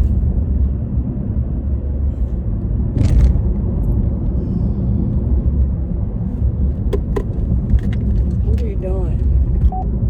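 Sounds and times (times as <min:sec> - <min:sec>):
car cabin road rumble: 0:00.0 - 0:10.0.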